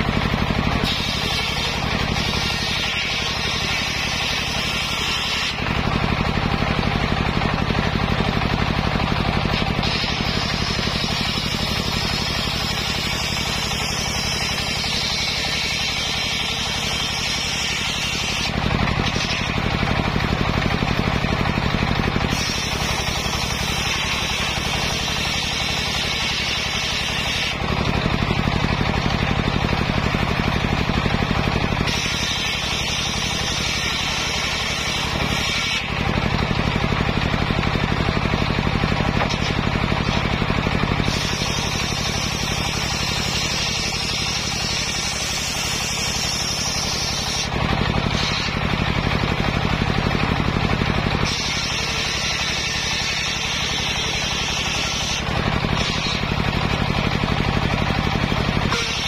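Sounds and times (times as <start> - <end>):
circular saw cutting wood: 0.0 - 59.0
saw drive drone: 0.0 - 59.0.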